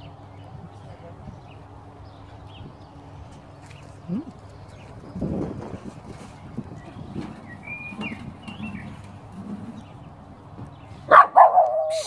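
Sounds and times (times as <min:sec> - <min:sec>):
bird chirping: 0:00.0 - 0:11.1.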